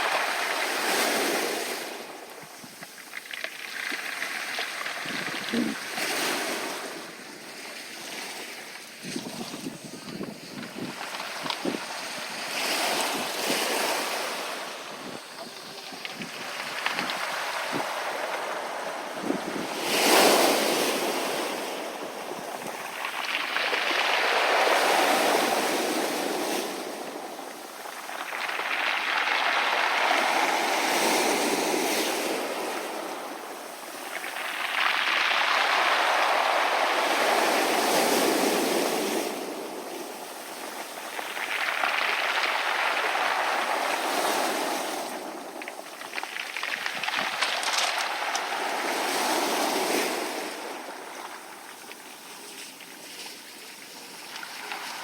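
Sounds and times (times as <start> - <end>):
waves washing over pebbles: 0.0 - 55.0.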